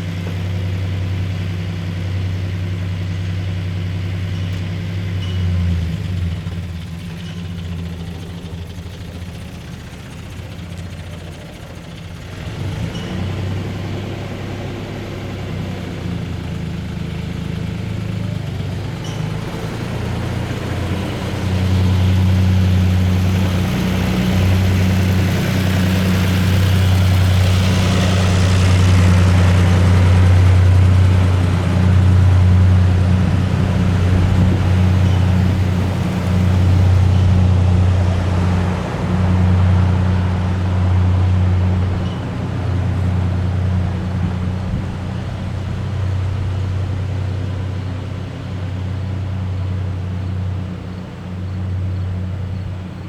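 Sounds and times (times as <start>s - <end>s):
low engine hum: 0.0s - 53.0s.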